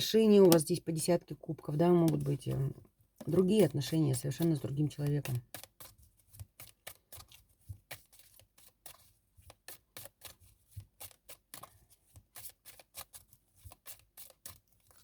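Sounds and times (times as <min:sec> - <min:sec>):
cards clicking and rustling: 0:01.8 - 0:15.0.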